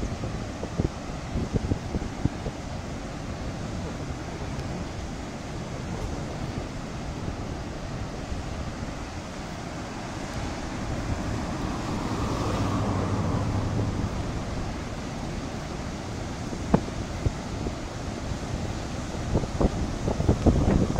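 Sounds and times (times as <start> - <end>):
water rushing and churning: 0.0 - 20.9
wind on microphone: 0.0 - 20.9.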